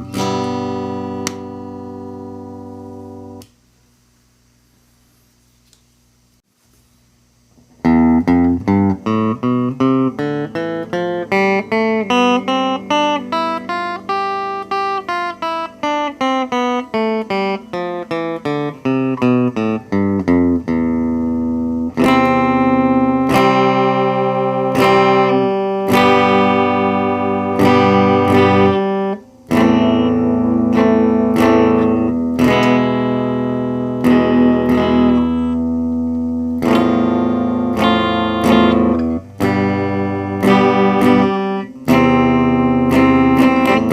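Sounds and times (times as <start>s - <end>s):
clean electric guitar: 0.0s - 3.6s, 7.5s - 43.9s.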